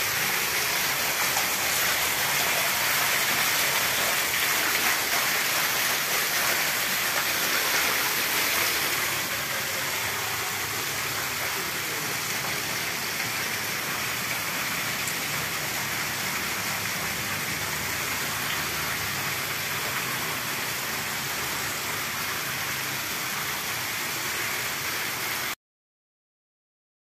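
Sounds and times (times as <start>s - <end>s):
water splashing onto concrete: 0.0s - 25.6s.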